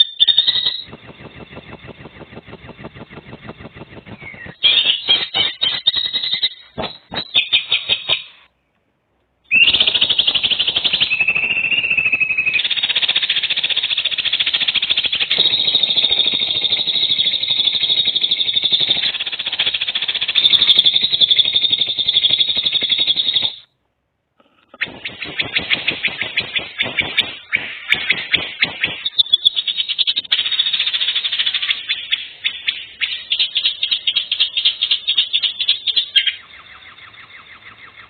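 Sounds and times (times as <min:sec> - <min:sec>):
bird rattling trill: 0:00.0 - 0:08.4, 0:09.5 - 0:23.7, 0:24.7 - 0:38.0.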